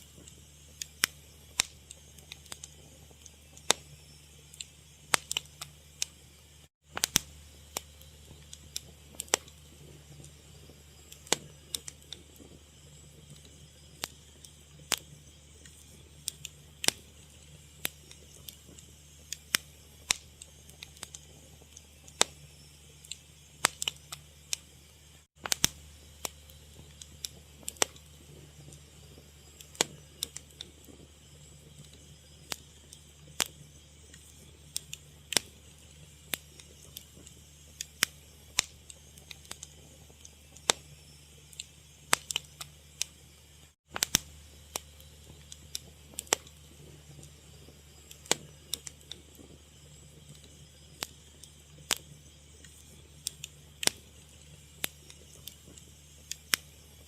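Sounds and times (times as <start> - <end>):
fire crackling and popping: 0.0 - 57.0
low steady hum: 0.0 - 57.0.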